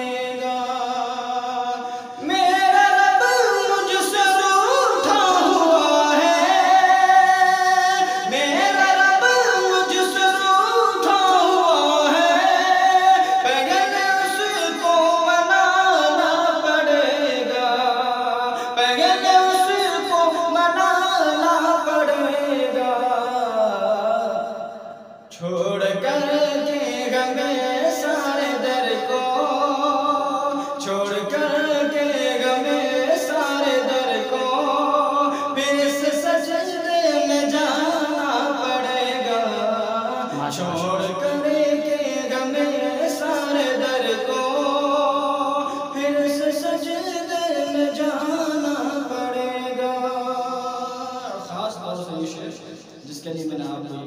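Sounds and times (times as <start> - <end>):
man singing: 0.0 - 54.0.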